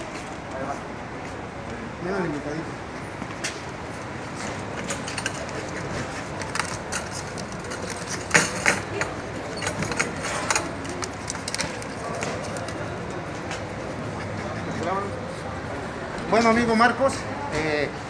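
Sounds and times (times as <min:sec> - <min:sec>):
hubbub of voices: 0:00.0 - 0:18.0.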